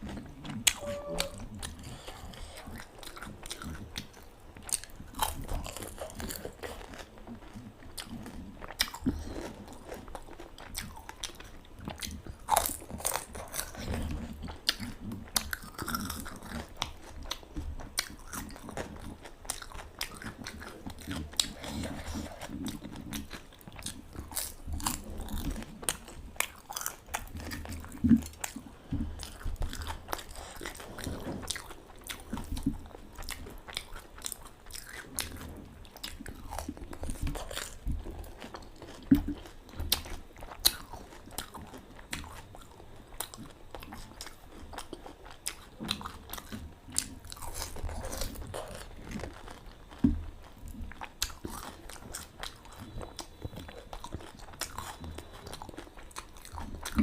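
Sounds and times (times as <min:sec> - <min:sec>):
chewing: 0:00.0 - 0:57.0.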